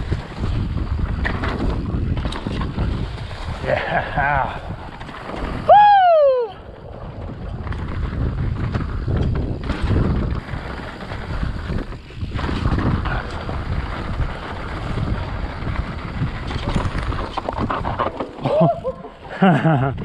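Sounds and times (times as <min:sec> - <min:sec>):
bike clattering over rocks: 0:00.0 - 0:05.7, 0:06.8 - 0:19.2
bike tyres crunching on trail: 0:00.0 - 0:19.8
wind over microphone: 0:00.0 - 0:20.0.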